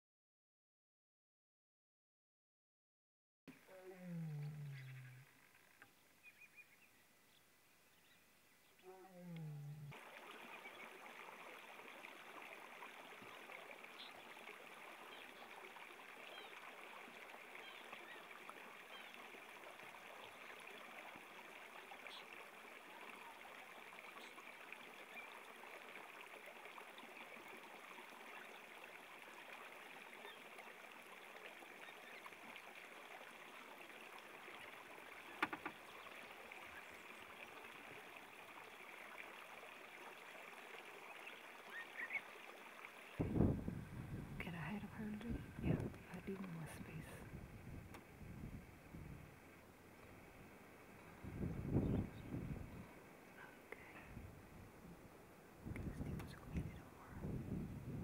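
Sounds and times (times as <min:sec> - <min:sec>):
faint steady hiss: 0:03.5 - 0:58.0.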